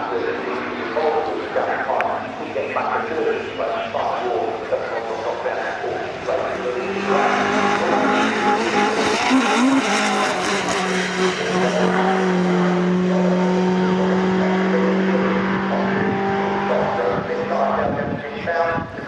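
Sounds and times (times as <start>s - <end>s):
racing truck engines passing: 0.0s - 19.0s.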